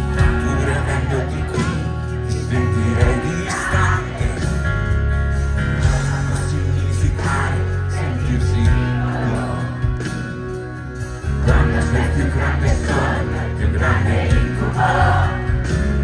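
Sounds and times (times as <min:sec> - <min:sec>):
man singing: 0:00.0 - 0:04.8, 0:05.6 - 0:10.0, 0:11.4 - 0:15.6
live pop band playing: 0:00.0 - 0:16.0.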